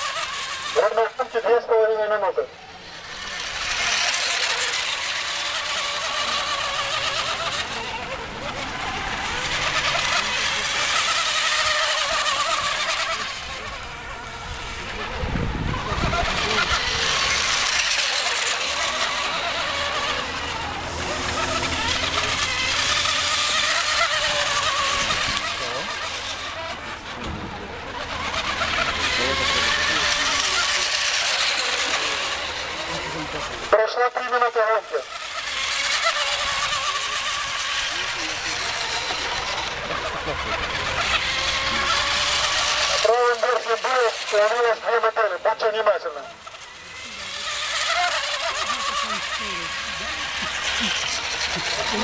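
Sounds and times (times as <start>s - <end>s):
hulls hissing through spray: 0.0s - 52.0s
model boat motor buzzing whine: 0.0s - 52.0s.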